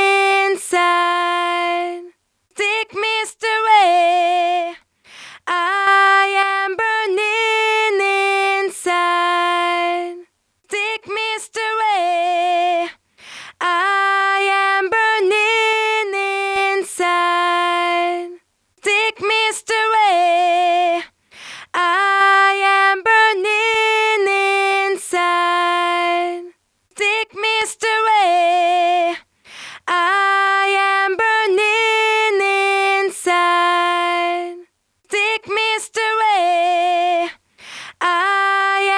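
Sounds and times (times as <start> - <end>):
woman singing with vibrato: 0.0 - 38.9.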